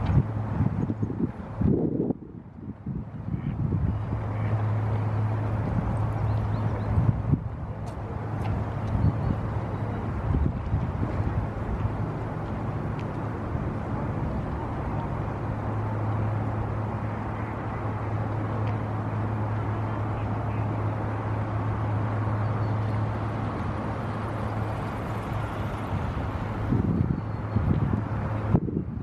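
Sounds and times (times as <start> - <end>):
broad outdoor rumble: 0.0 - 29.0
low engine hum: 0.0 - 29.0.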